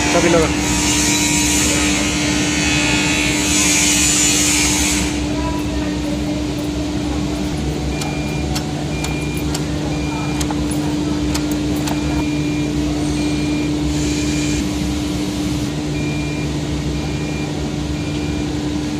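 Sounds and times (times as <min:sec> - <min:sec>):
milling machine motor hum: 0:00.0 - 0:18.9.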